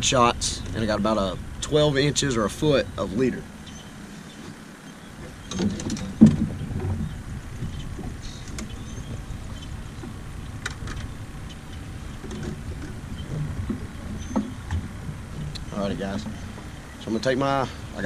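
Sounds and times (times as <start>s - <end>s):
wind and water against boat: 0.0s - 18.0s.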